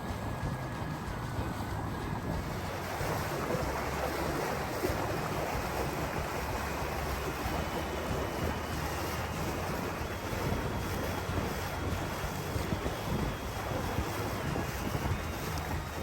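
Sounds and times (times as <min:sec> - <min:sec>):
diesel engine humming: 0:00.0 - 0:16.0
water rushing along hull: 0:00.0 - 0:16.0
wind buffeting microphone: 0:00.0 - 0:16.0.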